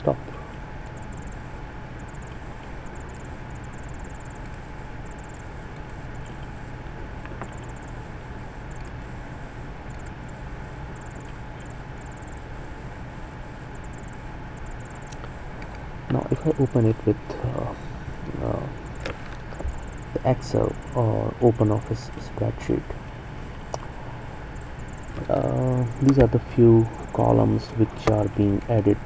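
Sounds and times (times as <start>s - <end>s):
electrical hiss and hum: 0.0s - 29.0s
faint thin whine: 0.0s - 29.0s.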